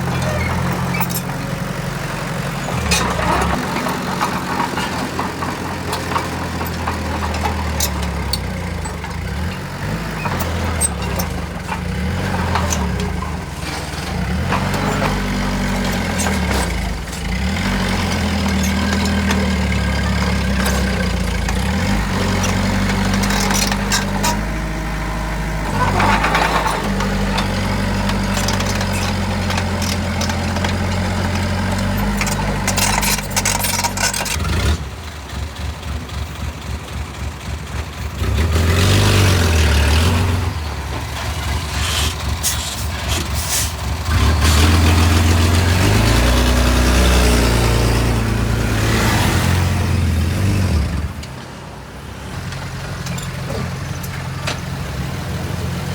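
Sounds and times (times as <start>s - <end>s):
diesel machinery running: 0.0s - 55.9s.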